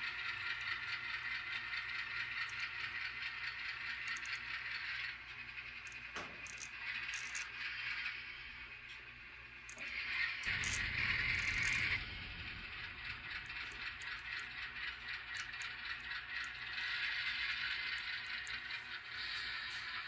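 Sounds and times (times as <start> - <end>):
model locomotive running on track: 0.0 - 20.0.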